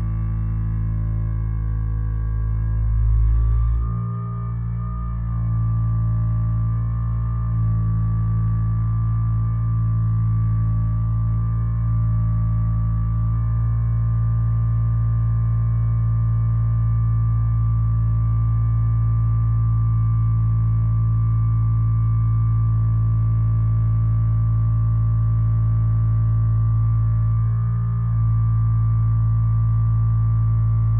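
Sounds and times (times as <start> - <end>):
vibrating roller motor hum: 0.0 - 30.9.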